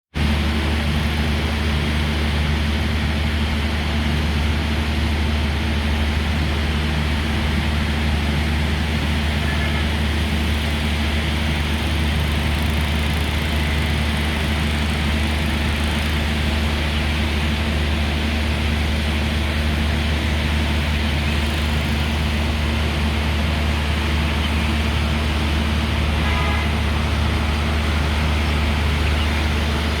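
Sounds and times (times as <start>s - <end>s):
low hum of vehicle traffic: 0.2s - 30.0s.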